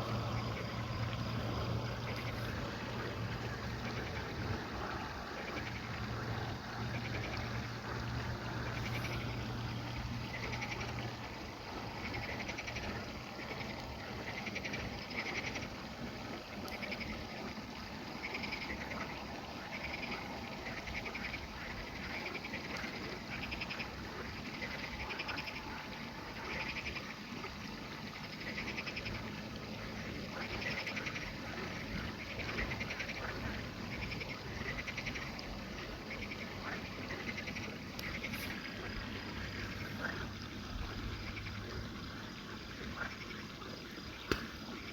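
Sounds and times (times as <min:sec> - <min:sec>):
frogs croaking: 0:00.0 - 0:44.9
insects buzzing: 0:00.0 - 0:44.9.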